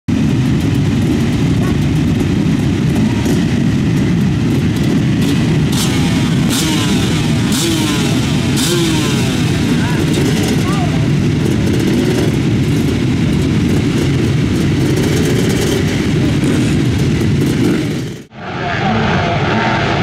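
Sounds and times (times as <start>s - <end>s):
motocross bike engines rumbling: 0.1s - 20.0s
motorbike engines revving: 0.1s - 20.0s.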